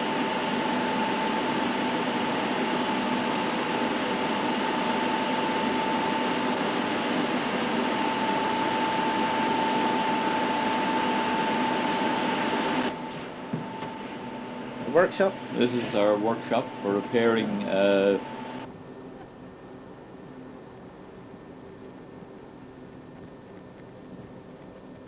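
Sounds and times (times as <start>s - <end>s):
high machine whine: 0.0s - 25.0s
low machine hum: 0.0s - 25.0s.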